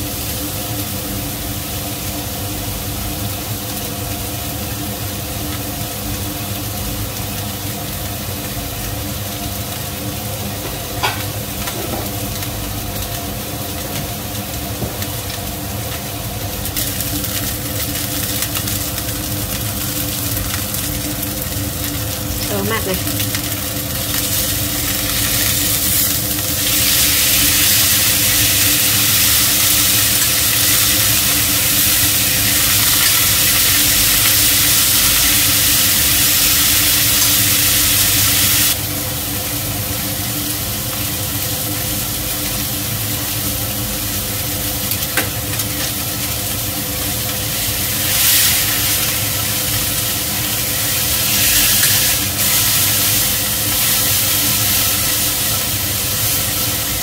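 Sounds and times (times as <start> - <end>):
range hood fan humming: 0.0 - 57.0
steaks sizzling in a frying pan: 0.0 - 57.0.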